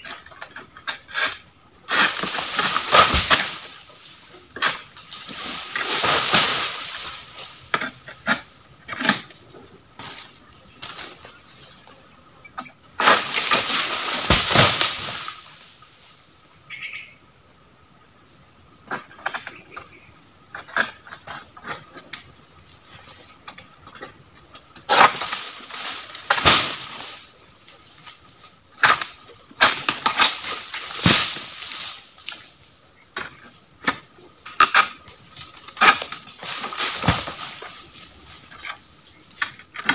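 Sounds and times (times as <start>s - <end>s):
insect drone: 0.0s - 39.9s
palm fronds rustling: 0.1s - 16.2s, 19.0s - 39.9s.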